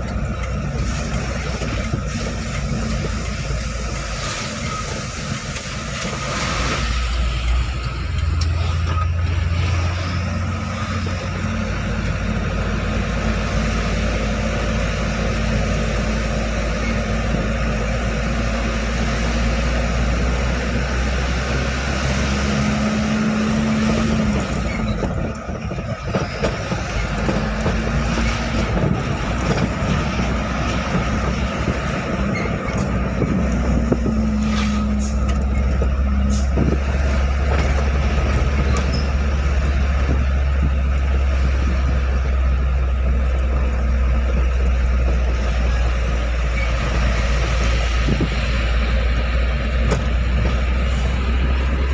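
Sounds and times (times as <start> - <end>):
road noise: 0.0 - 51.9
truck diesel engine under load: 0.0 - 51.9.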